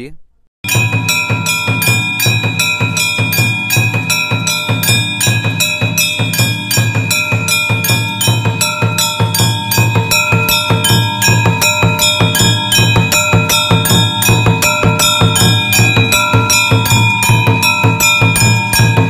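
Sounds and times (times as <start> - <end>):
bells ringing: 0.6 - 19.0
fast rhythmic percussion: 0.6 - 19.0.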